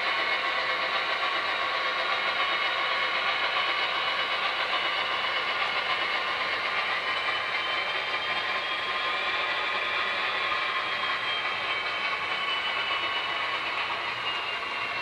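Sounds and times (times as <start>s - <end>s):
model train cars rolling on track: 0.0s - 15.0s.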